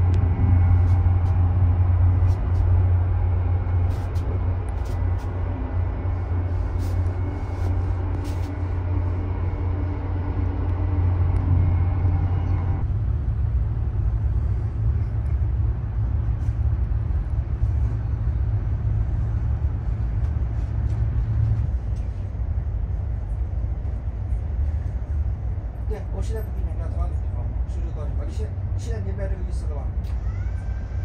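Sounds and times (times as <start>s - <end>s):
multi-tone hum: 0.0s - 31.0s
train rumble inside carriage: 0.0s - 31.0s.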